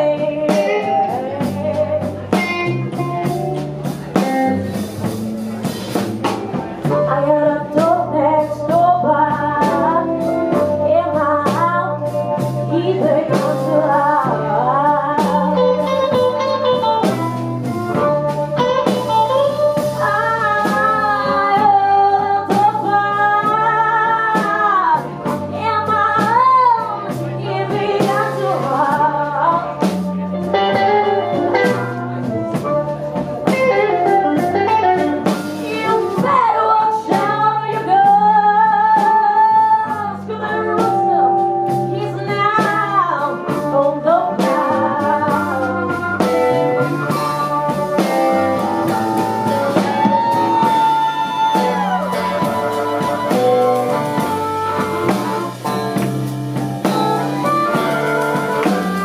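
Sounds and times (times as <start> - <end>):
woman singing: 0.0 - 3.4, 6.8 - 17.3, 18.9 - 32.8, 33.4 - 56.1, 56.8 - 59.0
bass guitar: 0.0 - 59.0
drums: 0.0 - 59.0
electric guitar: 0.0 - 59.0.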